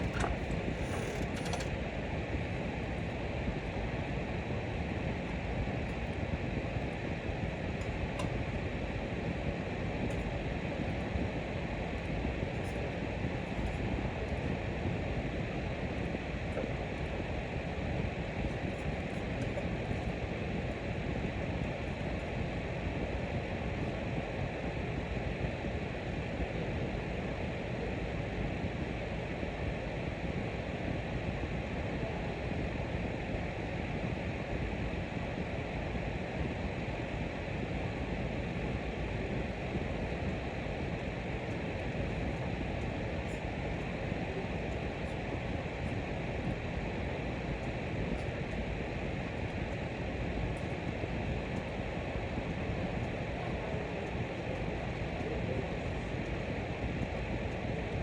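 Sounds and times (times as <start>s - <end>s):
fan running: 0.0s - 58.0s.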